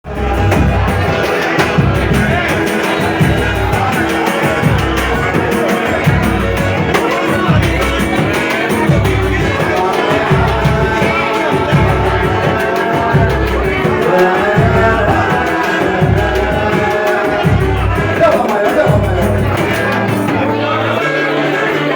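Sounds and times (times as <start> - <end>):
band music with heavy bass beat: 0.0 - 21.9
person singing: 0.0 - 21.9.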